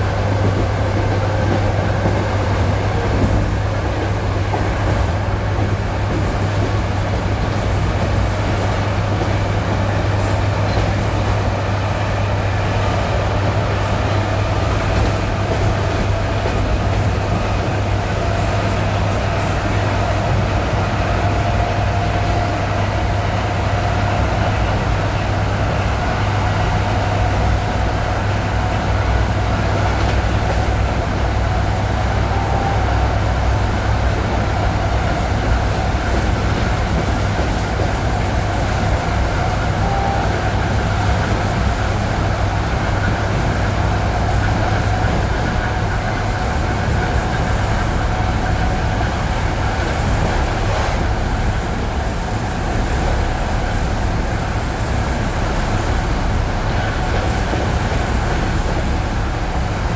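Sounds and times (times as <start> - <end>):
train running heard from inside: 0.0 - 59.9.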